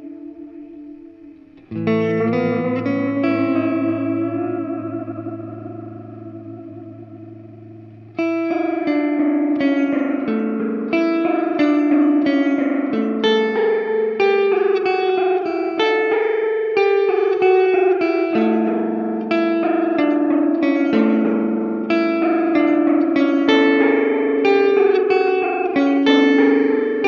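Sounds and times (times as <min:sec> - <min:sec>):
electric guitar with delay and reverb: 0:00.0 - 0:27.0.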